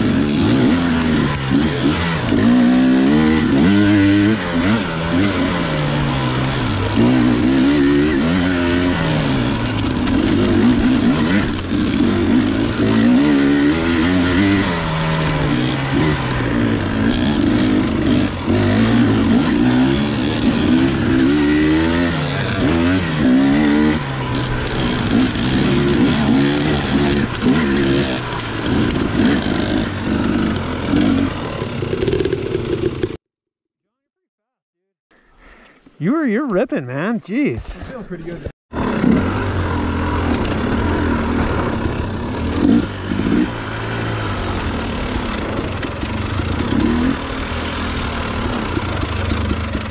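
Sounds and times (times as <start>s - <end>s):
dirt bike engine revving: 0.0s - 33.2s, 38.7s - 49.9s.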